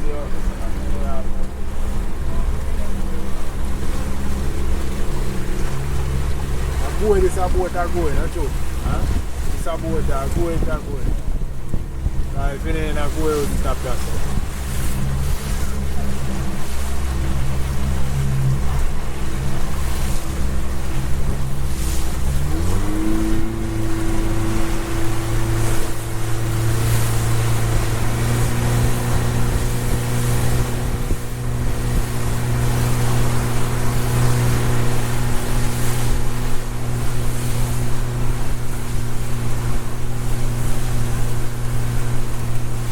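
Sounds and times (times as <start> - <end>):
motorboat engine running: 0.0 - 42.9
wind and water rushing: 0.0 - 42.9.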